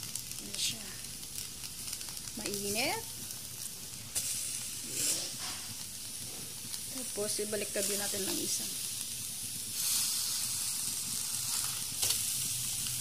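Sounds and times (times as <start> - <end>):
fish sizzling on grill pan: 0.0 - 13.0.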